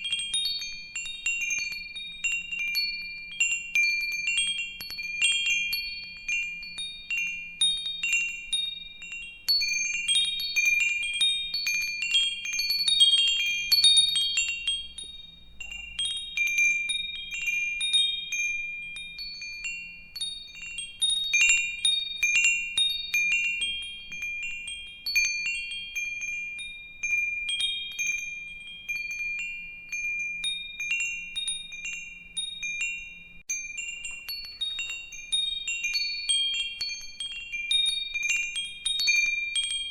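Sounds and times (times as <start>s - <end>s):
metal wind chimes ringing: 0.0s - 39.9s.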